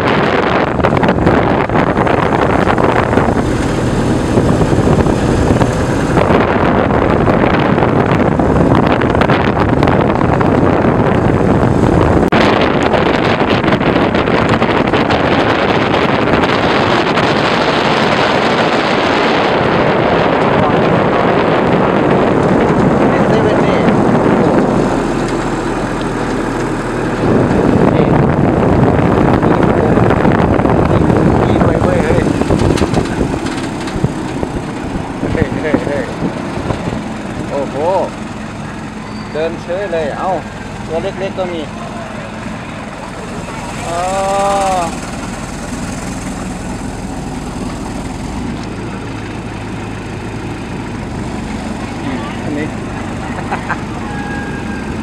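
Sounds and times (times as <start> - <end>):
vehicle road rumble: 0.0 - 55.0.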